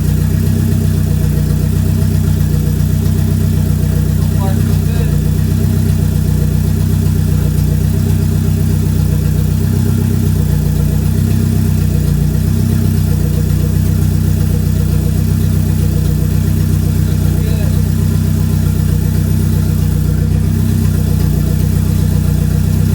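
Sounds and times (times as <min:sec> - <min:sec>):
car engine running steadily: 0:00.0 - 0:22.9.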